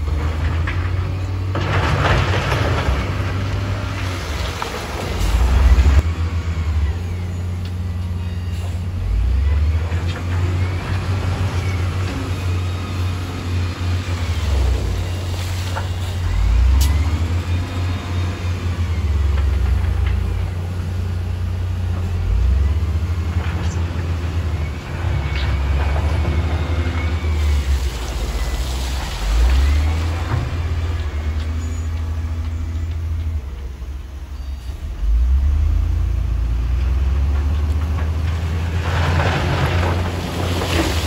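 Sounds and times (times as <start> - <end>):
dump truck engine: 0.0 - 41.0
wheel loader diesel engine revving: 0.0 - 41.0.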